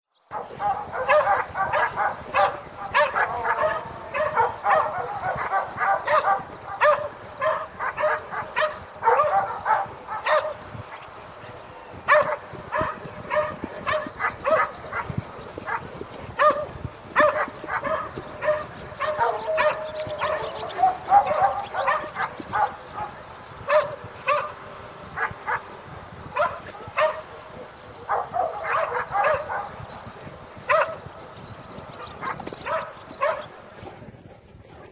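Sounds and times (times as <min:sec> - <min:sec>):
faint rural village ambience: 0:00.0 - 0:34.9
distant dogs barking: 0:00.2 - 0:34.9.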